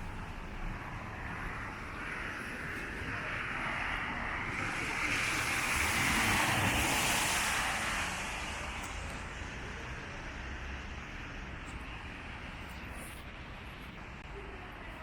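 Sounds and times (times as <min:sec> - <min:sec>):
car tyres hissing on wet street: 0:00.1 - 0:12.6.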